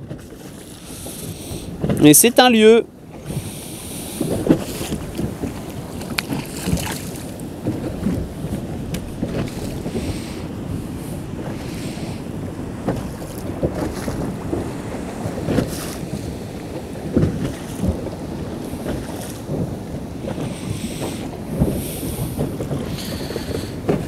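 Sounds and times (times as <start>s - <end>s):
sea washing against boat: 0.0s - 24.0s
wind buffeting microphone: 0.0s - 24.0s.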